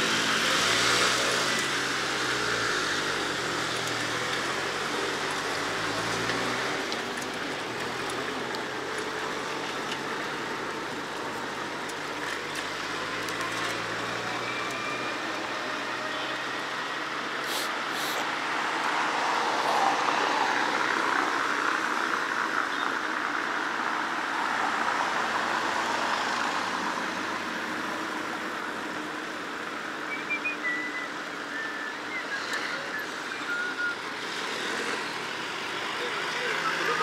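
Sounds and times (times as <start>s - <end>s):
car traffic: 0.0s - 37.0s.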